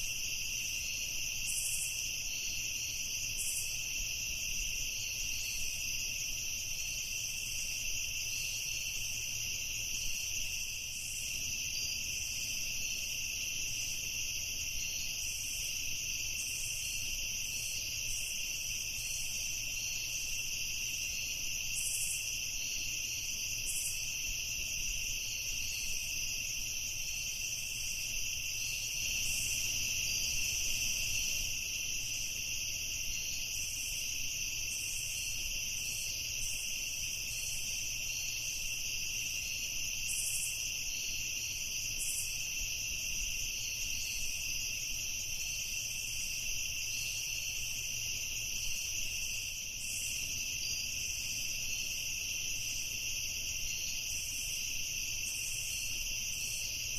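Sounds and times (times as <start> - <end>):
crickets and insects trilling: 0.0 - 56.9.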